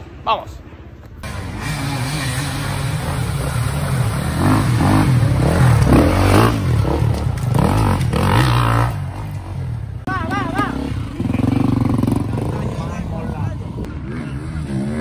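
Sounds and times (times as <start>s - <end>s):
motorcycle engine revving: 1.2s - 15.0s.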